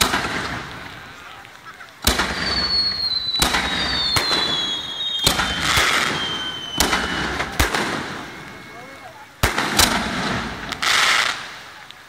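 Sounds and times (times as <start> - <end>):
fireworks bangs: 0.0 - 12.0
fireworks whistles falling in pitch: 2.0 - 11.7.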